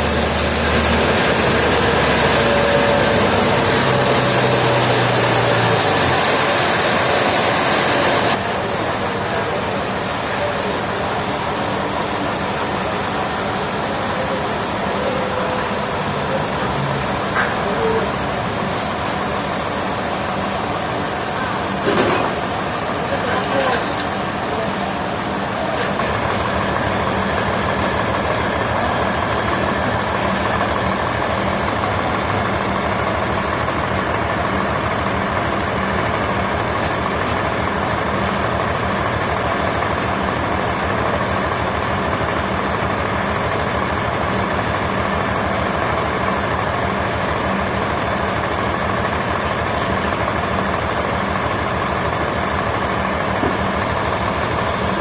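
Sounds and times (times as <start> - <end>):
heavy engine running steadily: 0.0 - 55.0.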